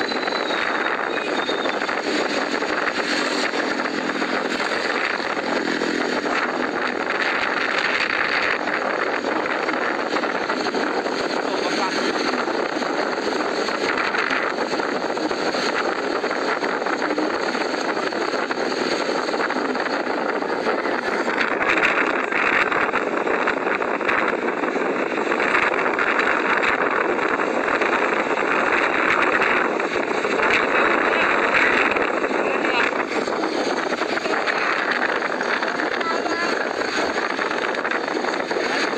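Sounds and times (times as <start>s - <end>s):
wind and road noise from riding: 0.0s - 38.9s.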